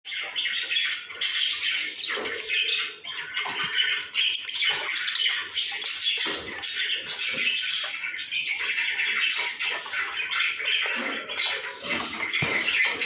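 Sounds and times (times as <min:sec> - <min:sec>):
parrots chattering and squawking: 0:00.1 - 0:13.0.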